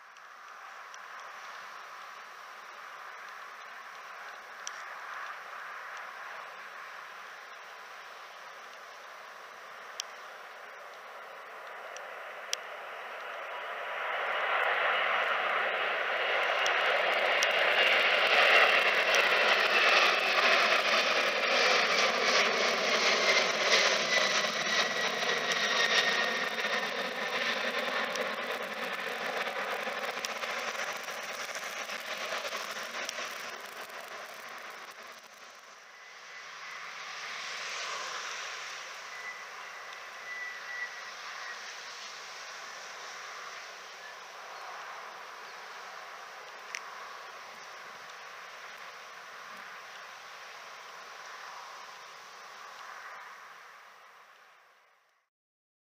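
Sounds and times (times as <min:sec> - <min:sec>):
jet engines roaring at take-off: 0:00.0 - 0:55.0
jet engine whine: 0:00.0 - 0:55.3.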